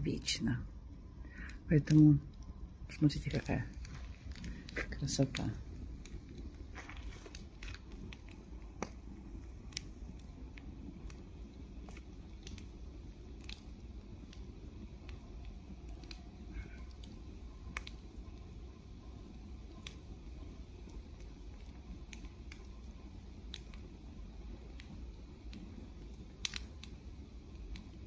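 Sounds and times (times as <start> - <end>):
bonfire crackling: 0.0 - 28.0
low steady rumble: 0.0 - 28.0.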